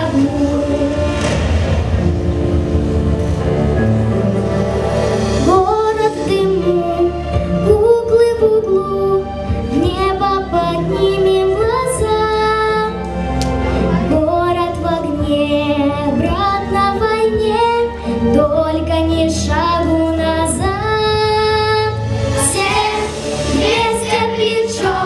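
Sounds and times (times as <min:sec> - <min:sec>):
backing track: 0:00.0 - 0:25.0.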